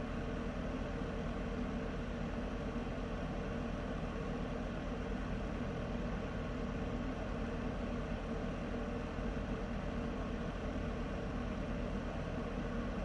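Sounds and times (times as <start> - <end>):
heater running with low hum: 0.0 - 13.0.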